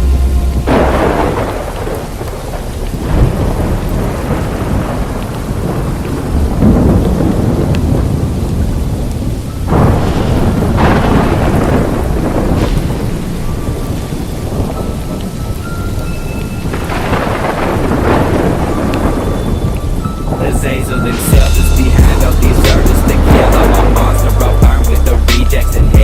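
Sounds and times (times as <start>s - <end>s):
heavy rain: 0.0s - 26.0s
rolling thunder: 0.0s - 26.0s.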